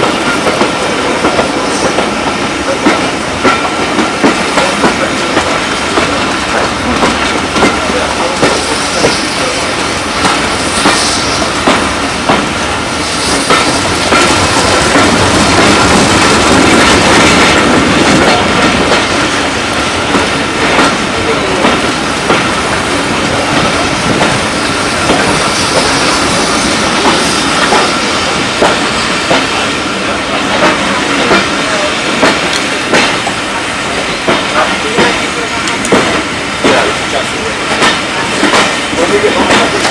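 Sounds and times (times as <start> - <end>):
train rushing on track: 0.0 - 39.9
train wheels clickety-clack: 0.0 - 39.9.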